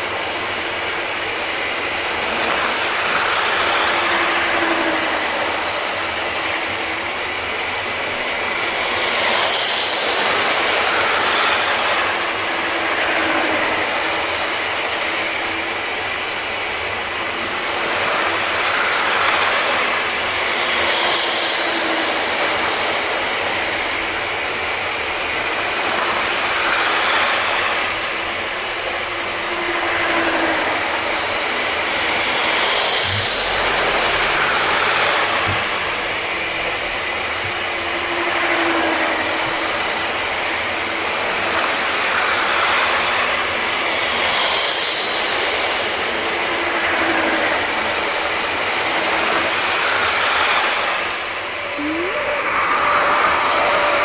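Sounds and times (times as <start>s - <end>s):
model train motors whirring: 0.0s - 54.0s.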